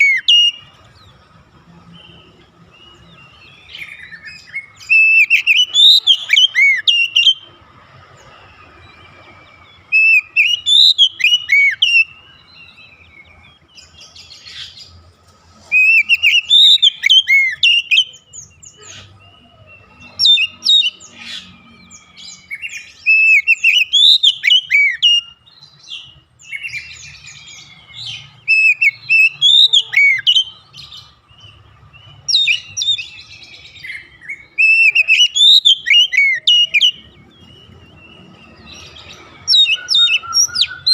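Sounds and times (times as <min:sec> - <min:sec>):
bird singing whistled phrases: 0:00.0 - 0:00.8, 0:02.0 - 0:07.5, 0:09.8 - 0:14.8, 0:15.7 - 0:40.9.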